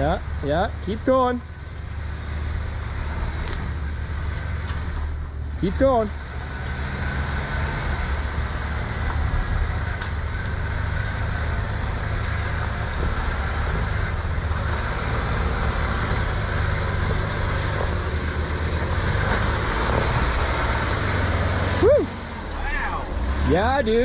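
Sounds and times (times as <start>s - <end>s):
car engine running steadily: 0.0s - 24.0s.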